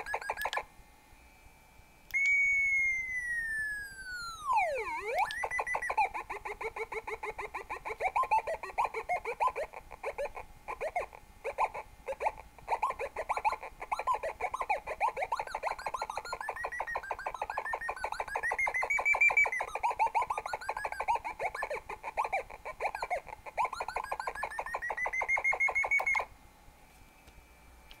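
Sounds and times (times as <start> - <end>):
warbling electronic beeps: 0.0 - 0.6, 2.4 - 26.3.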